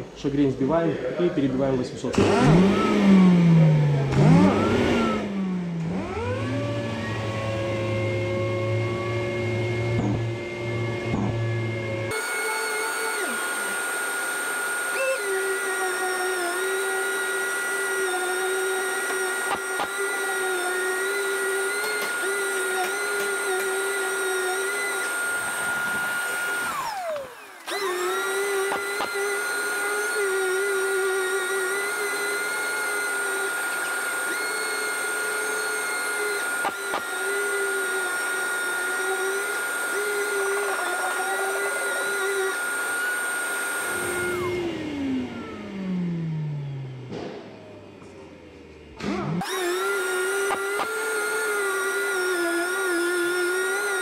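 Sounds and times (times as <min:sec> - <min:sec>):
orbital sander whining and hissing: 0:02.2 - 0:47.0, 0:49.3 - 0:54.0.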